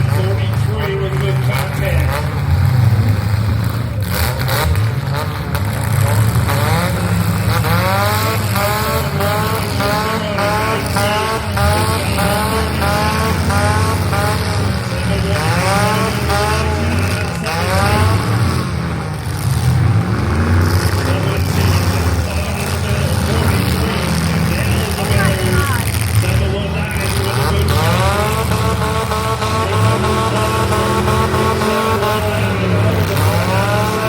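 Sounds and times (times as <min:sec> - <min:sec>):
car engines revving roughly: 0:00.0 - 0:34.0
cars ramming each other: 0:00.0 - 0:34.0.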